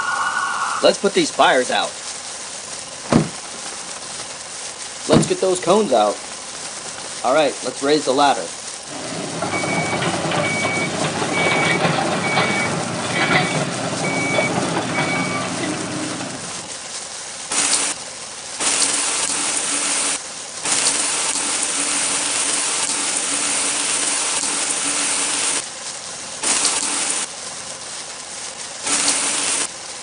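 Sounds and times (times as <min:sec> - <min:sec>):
water spraying in hissing spurts: 0:00.0 - 0:30.0.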